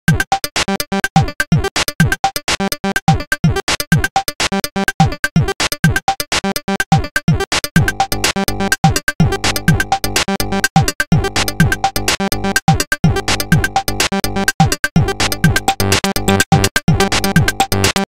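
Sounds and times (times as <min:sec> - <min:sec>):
kick drum beat: 0:00.0 - 0:08.1, 0:08.8 - 0:10.0, 0:10.7 - 0:11.9, 0:12.6 - 0:13.8, 0:14.5 - 0:18.0.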